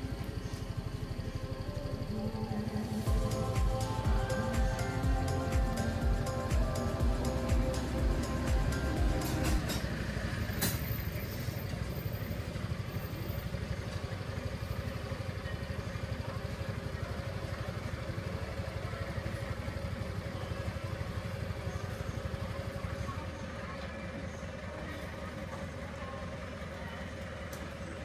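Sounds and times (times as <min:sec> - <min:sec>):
small motorcycle engine idling: 0:00.0 - 0:28.0.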